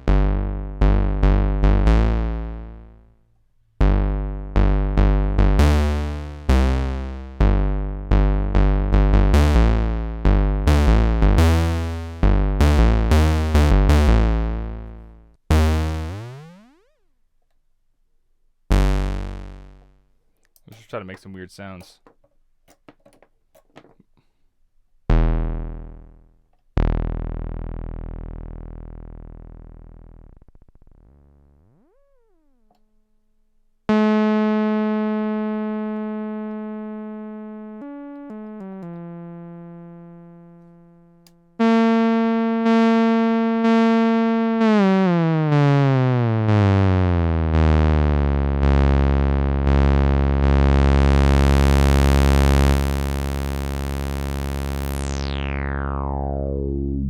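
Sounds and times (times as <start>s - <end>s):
analog synthesizer notes: 0.0s - 3.2s, 3.8s - 17.0s, 18.7s - 20.0s, 25.1s - 32.7s, 33.9s - 57.0s.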